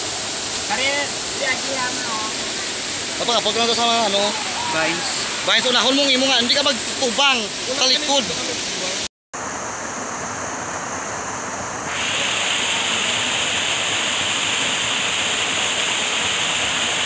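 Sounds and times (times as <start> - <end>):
small waterfall rushing over rocks: 0.0 - 17.0.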